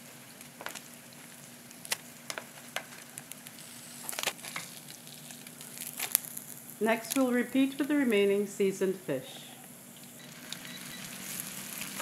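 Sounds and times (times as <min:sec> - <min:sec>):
fish sizzling in oil: 0:00.0 - 0:08.8, 0:09.8 - 0:12.0.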